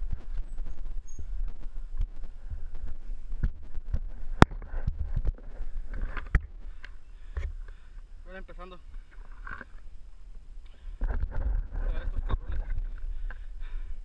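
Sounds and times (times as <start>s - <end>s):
wind and trail rumble: 0.0s - 7.4s, 8.9s - 14.0s.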